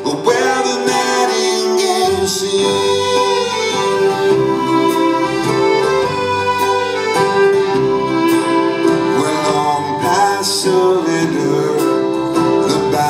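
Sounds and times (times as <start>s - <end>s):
live band playing a waltz: 0.0s - 13.0s.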